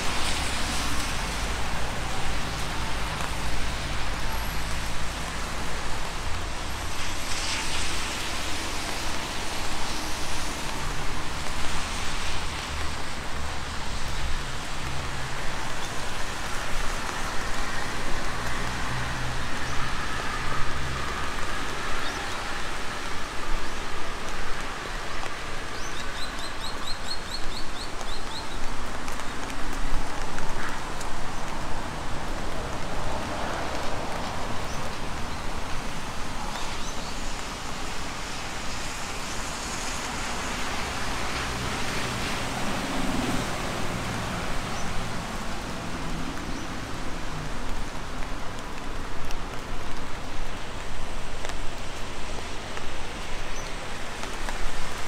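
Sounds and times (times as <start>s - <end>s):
road traffic rumbling: 0.0s - 26.6s, 27.5s - 55.0s
steady rain falling: 0.0s - 55.0s
tyres hissing on wet road: 0.0s - 55.0s.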